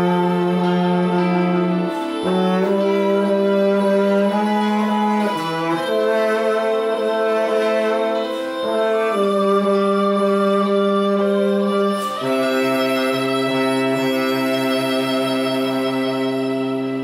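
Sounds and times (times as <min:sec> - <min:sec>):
bass saxophone playing hymn melody: 0:00.0 - 0:17.0.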